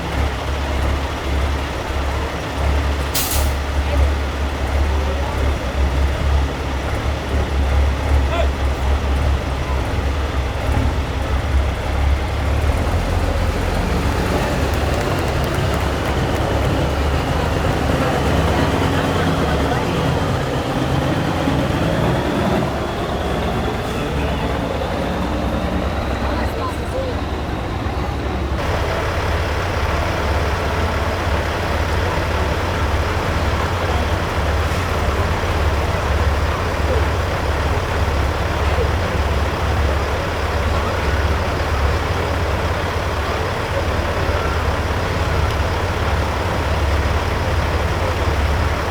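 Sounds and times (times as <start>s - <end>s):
diesel truck engines rumbling: 0.0s - 48.9s.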